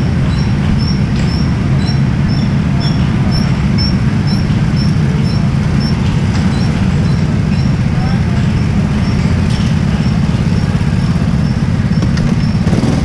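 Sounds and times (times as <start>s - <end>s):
go-karts rumbling: 0.0s - 13.0s.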